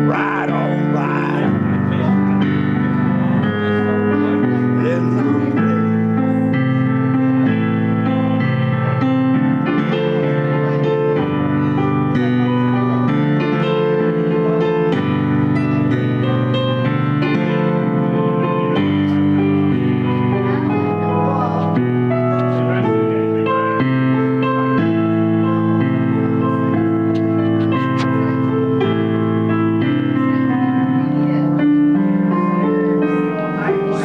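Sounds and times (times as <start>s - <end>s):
electric keyboard chords: 0.0s - 34.0s.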